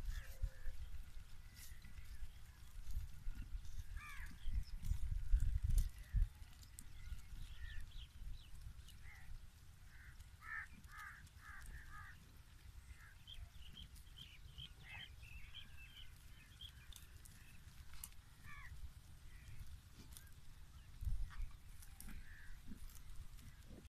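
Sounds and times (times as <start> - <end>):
birds calling and chirping: 0.0 - 23.9.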